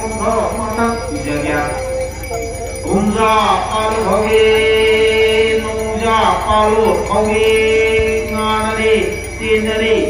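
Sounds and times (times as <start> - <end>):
music with jingling bells: 0.0 - 10.0
person singing a chant: 0.0 - 10.0.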